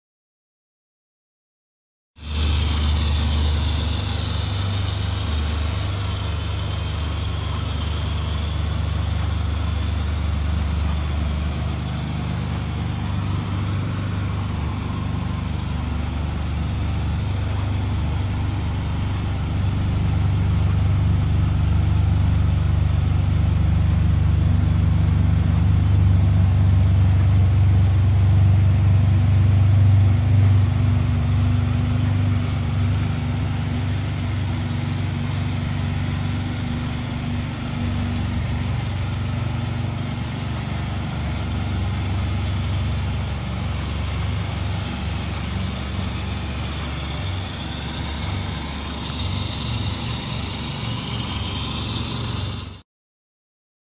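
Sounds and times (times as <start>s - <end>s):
car engine idling: 2.2s - 52.8s.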